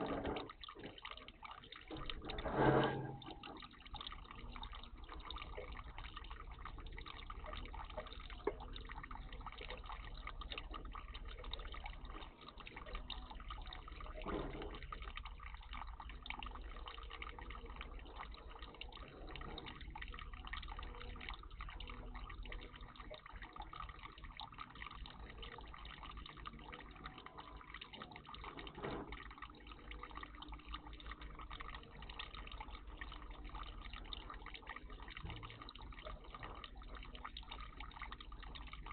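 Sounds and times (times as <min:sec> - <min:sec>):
water trickling and dripping: 0:00.0 - 0:38.9.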